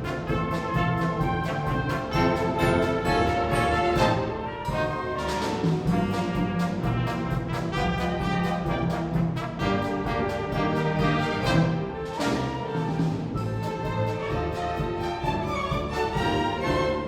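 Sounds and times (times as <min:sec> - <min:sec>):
brass instruments with orchestra: 0:00.0 - 0:17.0.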